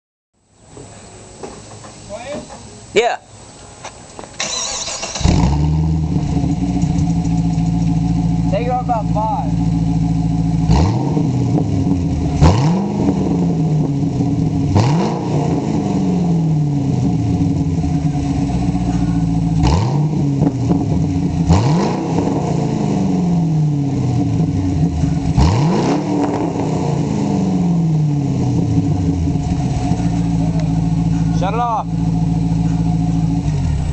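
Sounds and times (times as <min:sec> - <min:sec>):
car engine idling and revving: 0:04.4 - 0:33.9.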